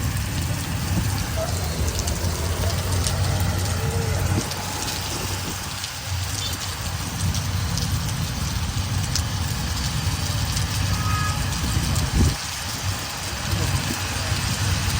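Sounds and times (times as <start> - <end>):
steady rain: 0.0 - 14.9.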